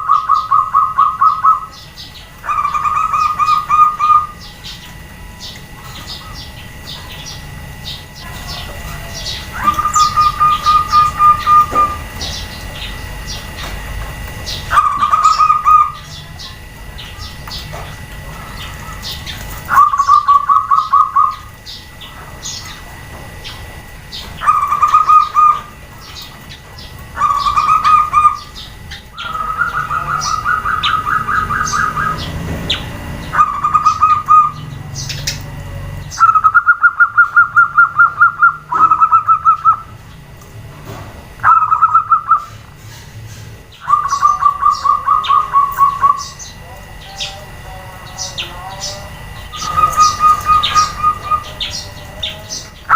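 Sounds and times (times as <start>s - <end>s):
small birds chirping: 0.0s - 40.3s, 41.3s - 52.9s
doves trilling: 0.0s - 52.9s.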